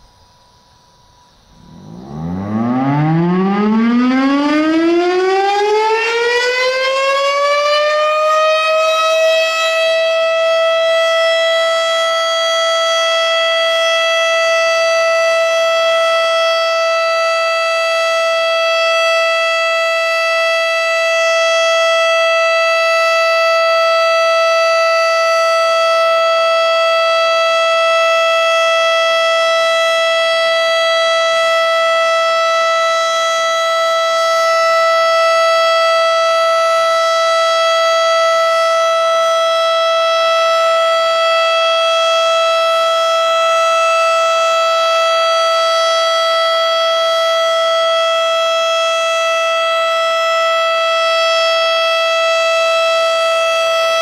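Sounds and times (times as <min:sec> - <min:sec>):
warning siren winding up: 0:01.4 - 0:54.0.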